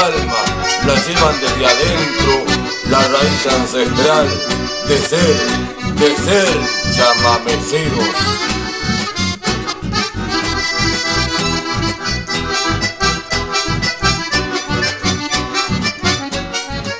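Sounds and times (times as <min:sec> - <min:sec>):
accordions playing melody: 0:00.0 - 0:16.9
strummed acoustic guitar: 0:00.0 - 0:16.9.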